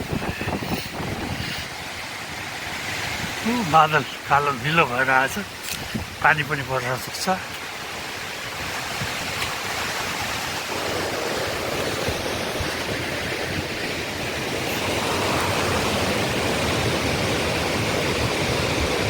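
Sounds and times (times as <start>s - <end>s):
gusty wind buffeting microphone: 0.0s - 4.3s, 5.4s - 6.5s, 7.7s - 19.0s.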